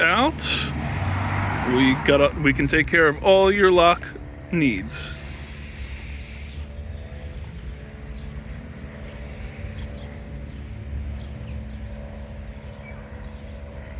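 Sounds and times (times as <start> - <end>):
low mechanical hum: 2.3 - 13.9.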